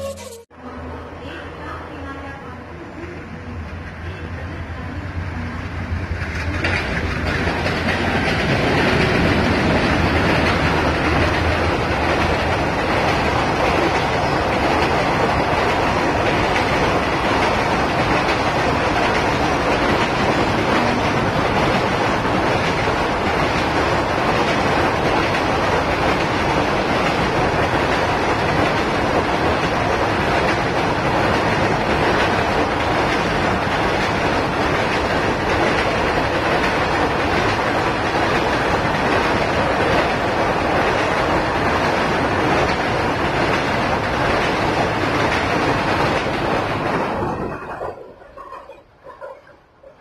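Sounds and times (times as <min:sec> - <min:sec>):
train wheels rolling on rails: 0:03.5 - 0:50.0.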